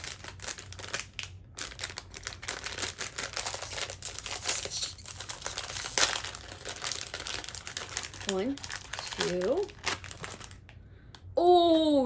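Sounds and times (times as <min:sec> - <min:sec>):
foil packet crinkling and tearing: 0:00.0 - 0:10.8.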